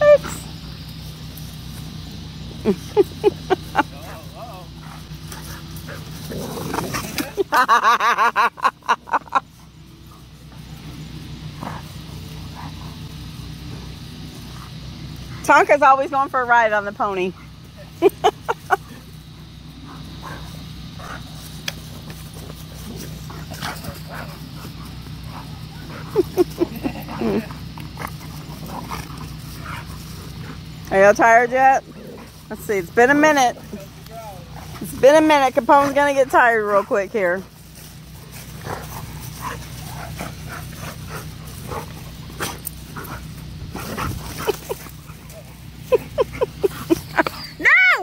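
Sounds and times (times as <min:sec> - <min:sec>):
dogs growling and snarling: 0:00.0 - 0:15.7, 0:16.6 - 0:48.0.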